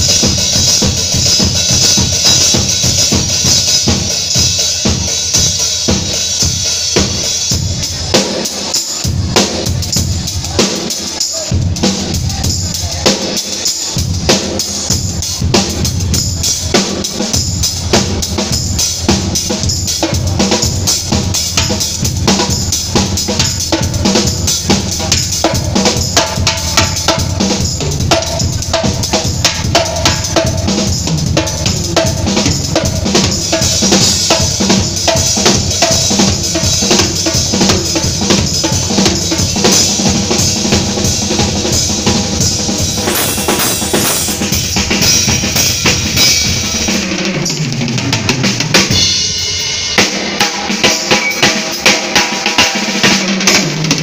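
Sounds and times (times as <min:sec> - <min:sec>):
drum kit playing a groove: 0:00.0 - 0:54.0.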